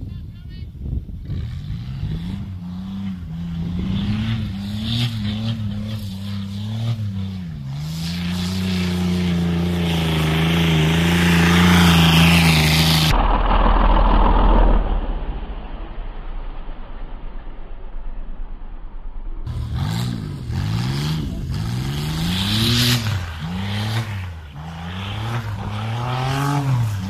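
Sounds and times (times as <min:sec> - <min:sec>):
turbocharged car engine revving: 0:01.3 - 0:15.5, 0:19.5 - 0:27.0
car sliding past on dirt: 0:03.0 - 0:18.2, 0:19.5 - 0:27.0.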